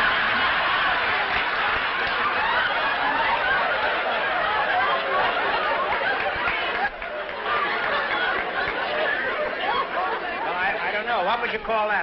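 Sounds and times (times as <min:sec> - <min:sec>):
audience laughing: 0:00.0 - 0:11.6.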